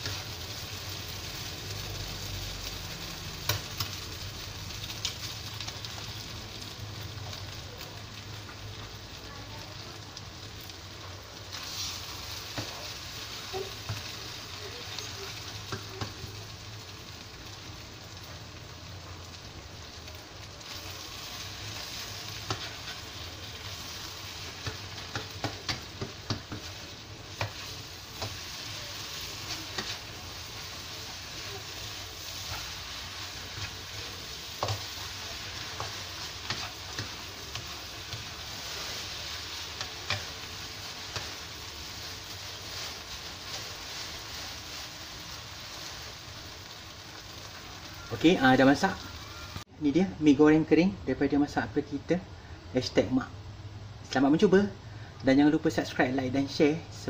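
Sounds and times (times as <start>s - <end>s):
noodles sizzling in a wok: 0.0s - 51.8s.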